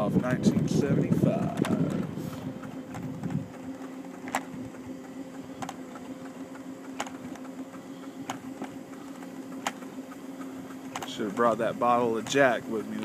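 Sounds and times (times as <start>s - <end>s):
scooter motor hum: 0.0s - 13.0s
sharp clicks: 1.0s - 11.6s.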